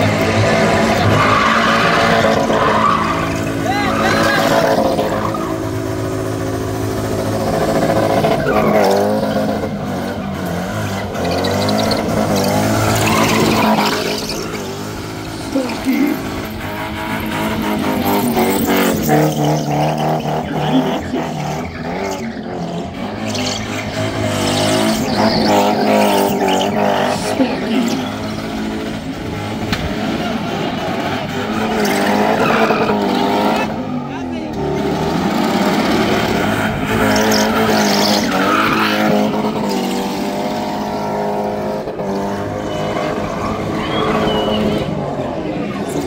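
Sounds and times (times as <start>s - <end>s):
car engine revving: 0.0s - 46.0s
tyres spinning on pavement: 0.0s - 46.0s.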